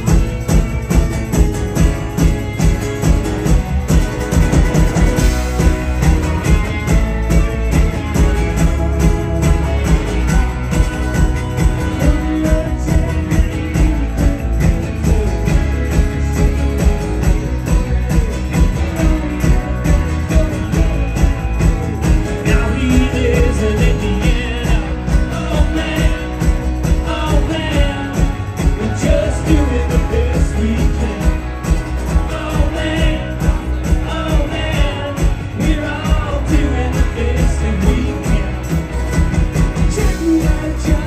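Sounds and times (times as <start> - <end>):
live rock band playing: 0.0 - 41.0
person singing: 5.5 - 38.8, 39.7 - 41.0.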